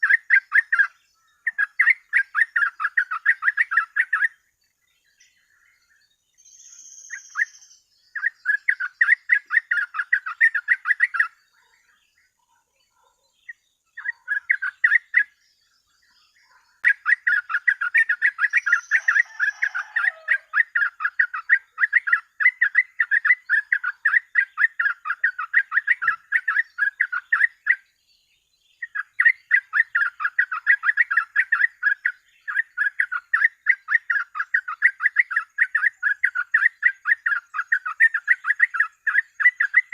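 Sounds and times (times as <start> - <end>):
bird singing bubbling notes: 0.0 - 12.1, 13.5 - 28.0, 28.8 - 39.9.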